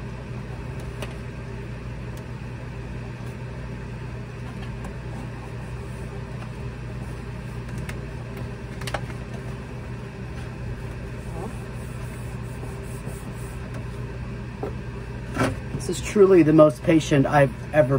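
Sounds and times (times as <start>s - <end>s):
low mechanical hum of machine: 0.0s - 17.9s.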